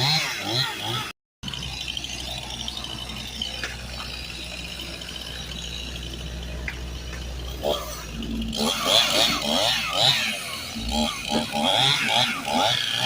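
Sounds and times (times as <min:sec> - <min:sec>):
chainsaw engine idling: 0:00.0 - 0:13.0.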